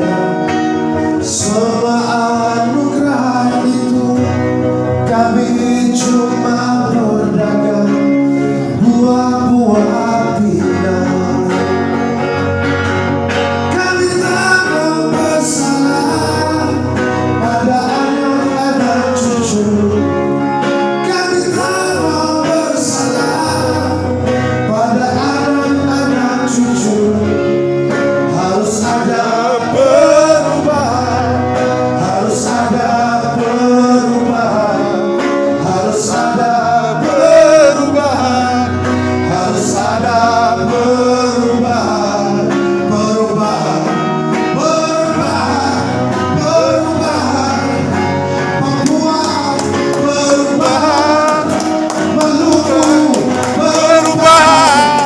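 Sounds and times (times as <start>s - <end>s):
guitar accompaniment: 0.0s - 55.0s
man singing: 0.0s - 55.0s.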